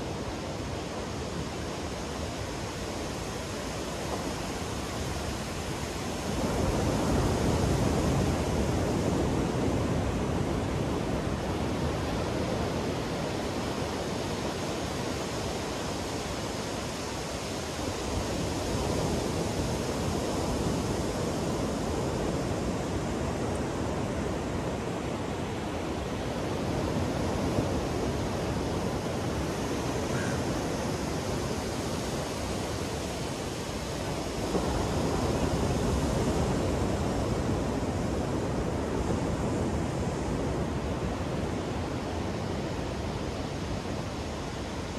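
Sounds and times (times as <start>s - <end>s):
ocean waves breaking on beach: 0.0s - 44.9s.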